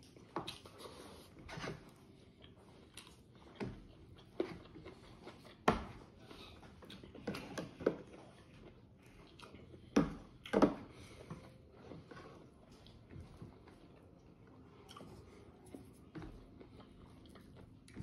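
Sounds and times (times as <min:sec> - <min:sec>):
chewing and mouth noises: 0:00.0 - 0:18.0.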